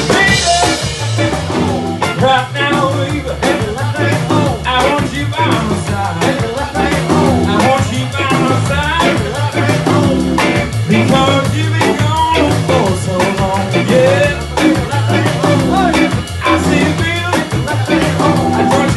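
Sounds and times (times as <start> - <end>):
band playing soul-jazz: 0.0 - 18.9.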